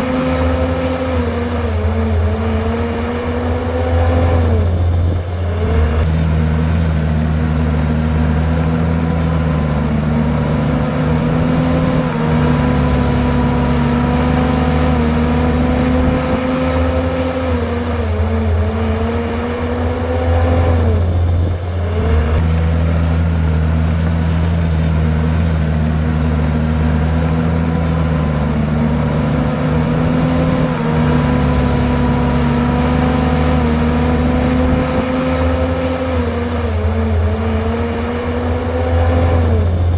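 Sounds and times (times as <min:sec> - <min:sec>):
bulldozer diesel engine running: 0:00.0 - 0:39.9
bulldozer pushing soil and rock: 0:00.0 - 0:39.9.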